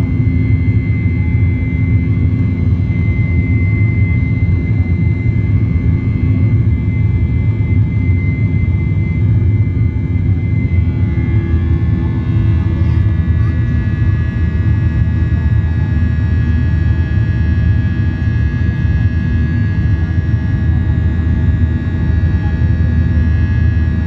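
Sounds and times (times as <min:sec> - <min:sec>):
airliner engine drone: 0:00.0 - 0:24.0.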